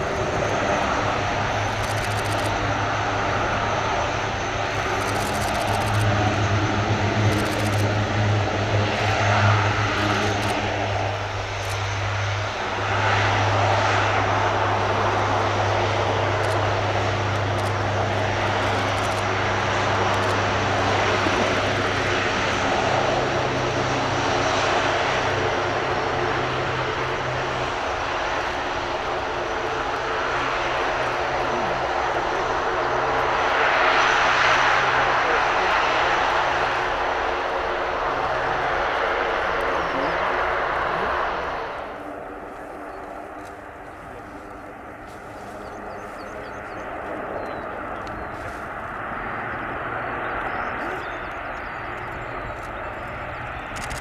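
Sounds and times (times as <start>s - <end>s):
turboprop propeller drone: 0.0s - 54.0s.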